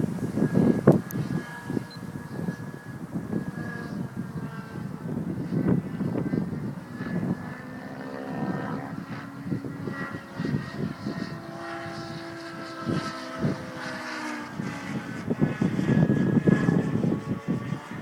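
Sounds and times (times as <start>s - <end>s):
model helicopter whine: 0.0s - 18.0s
wind buffeting microphone: 0.0s - 18.0s.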